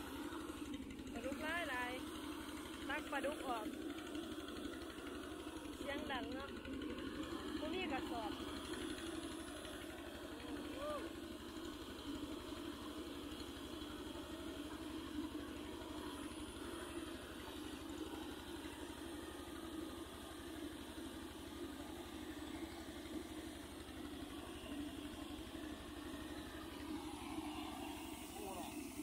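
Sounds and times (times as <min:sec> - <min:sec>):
water pump engine droning: 0:00.0 - 0:29.0.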